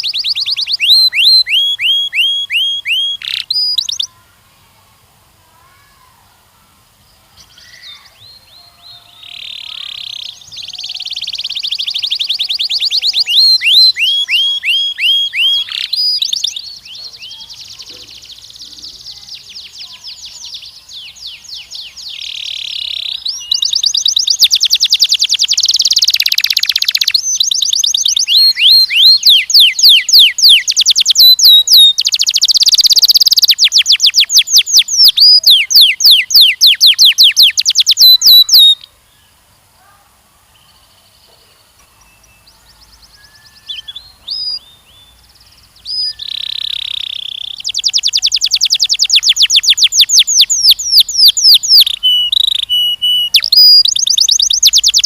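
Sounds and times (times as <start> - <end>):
canary singing trills: 0.0 - 4.2, 7.4 - 55.0.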